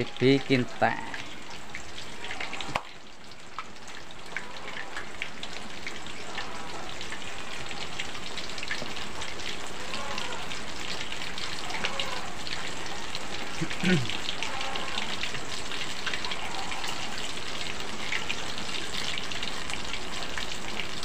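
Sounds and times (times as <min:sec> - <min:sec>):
food frying in hot oil: 0:00.0 - 0:21.0.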